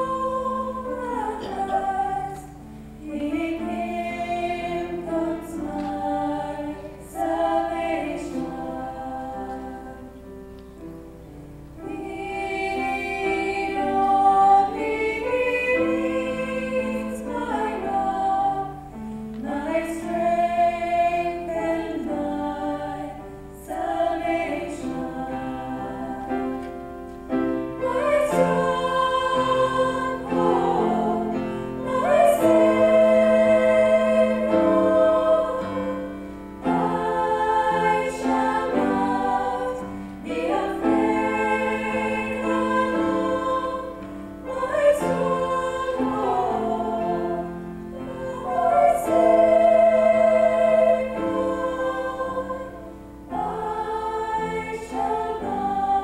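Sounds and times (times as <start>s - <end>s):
women's choir singing: 0.0s - 56.0s.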